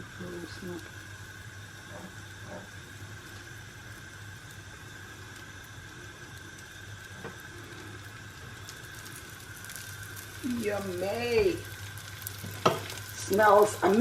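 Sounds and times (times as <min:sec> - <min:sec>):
constant hum: 0:00.0 - 0:14.0
food sizzling in butter: 0:00.0 - 0:14.0.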